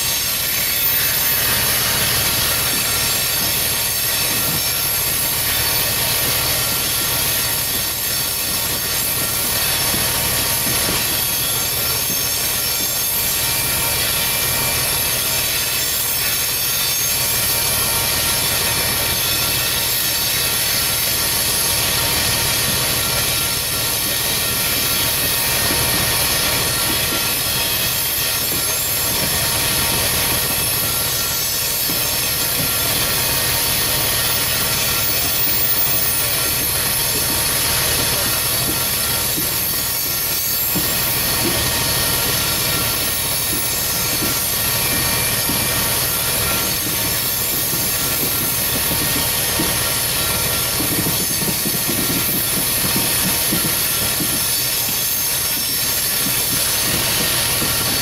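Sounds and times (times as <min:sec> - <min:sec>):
freight train rolling: 0:00.0 - 0:58.0
train wheels squealing: 0:00.0 - 0:58.0.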